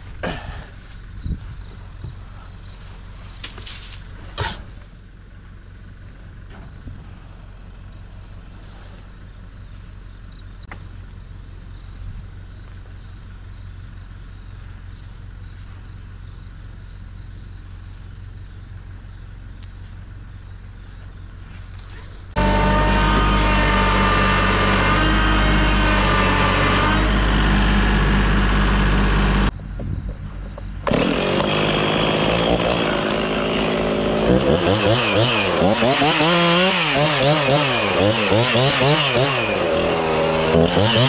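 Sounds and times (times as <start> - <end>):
engine running at low revs: 0.0 - 41.0.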